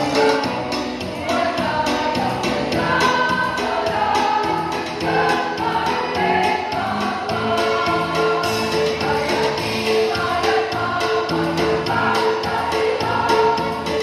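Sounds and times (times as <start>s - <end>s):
choir singing: 0.0s - 14.0s
steady percussive beat: 0.0s - 14.0s.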